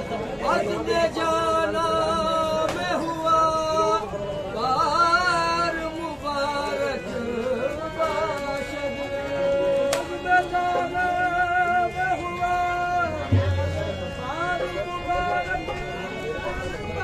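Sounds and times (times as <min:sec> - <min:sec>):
harmonium: 0:00.0 - 0:17.0
man singing devotional melody: 0:00.0 - 0:17.0.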